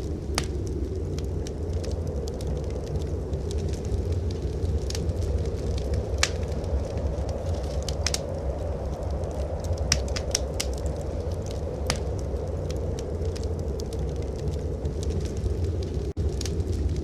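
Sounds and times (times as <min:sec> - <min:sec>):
low rumble of blizzard wind: 0:00.0 - 0:17.0
wood fire crackling and popping: 0:00.0 - 0:17.0.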